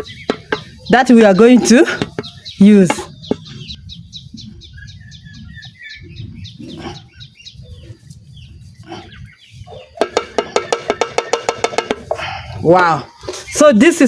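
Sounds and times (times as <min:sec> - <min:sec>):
chickens clucking: 0:00.0 - 0:13.6.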